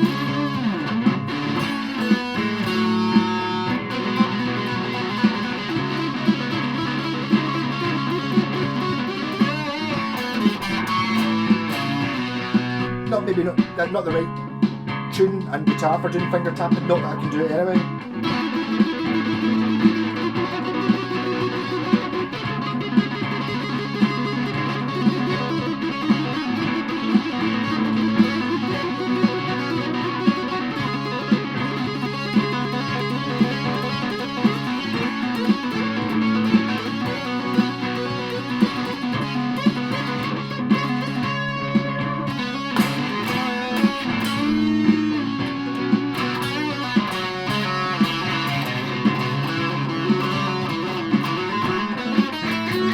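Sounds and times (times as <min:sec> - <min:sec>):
distorted electric guitar riff: 0:00.0 - 0:52.9.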